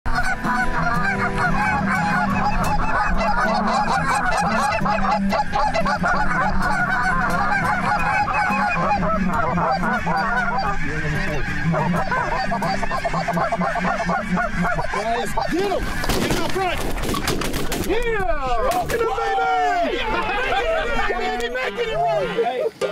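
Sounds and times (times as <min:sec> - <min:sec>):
geese honking in flight: 0:00.1 - 0:22.8.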